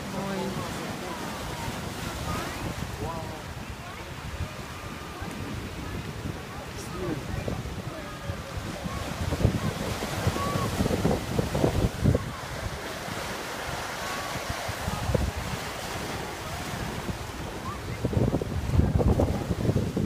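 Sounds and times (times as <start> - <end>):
ocean surf breaking on rocks: 0.0 - 20.0
wind buffeting microphone: 0.0 - 20.0.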